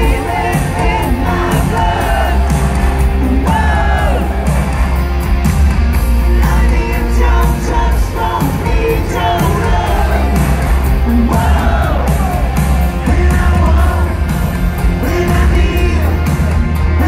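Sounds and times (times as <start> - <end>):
lead vocal singing: 0.0 - 5.0, 5.9 - 17.0
live rock band: 0.0 - 17.0.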